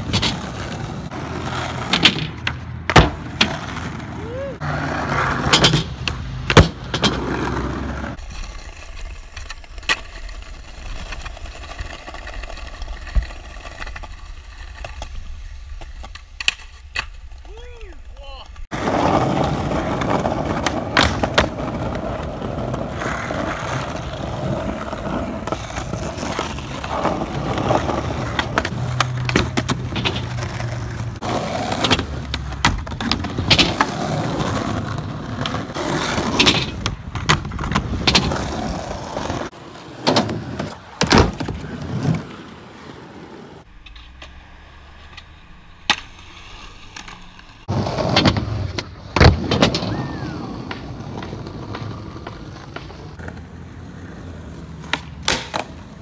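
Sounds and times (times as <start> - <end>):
skateboard clacks: 0.0 - 42.4, 43.6 - 56.0
skateboard wheels rolling on concrete: 0.0 - 56.0.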